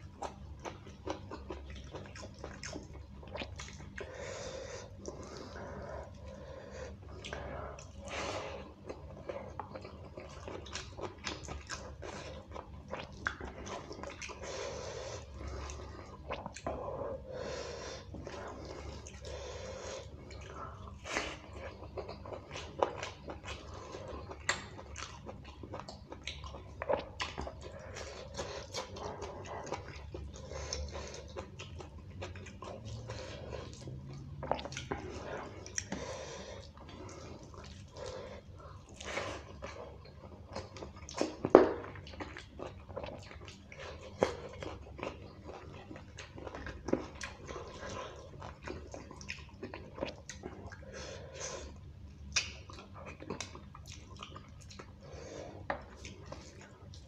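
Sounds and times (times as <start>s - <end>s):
wet chewing and lip-smacking: 0.0s - 17.2s, 17.9s - 57.0s.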